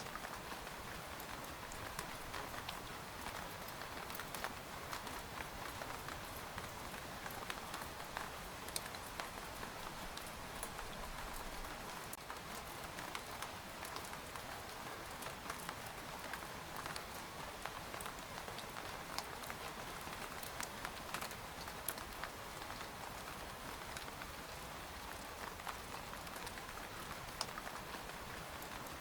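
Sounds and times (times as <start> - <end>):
raindrops tapping on tent fabric: 0.0 - 24.3, 25.0 - 29.0.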